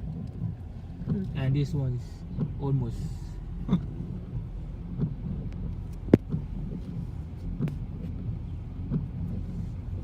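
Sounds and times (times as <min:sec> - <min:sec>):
car road noise rumble: 0:00.0 - 0:10.0.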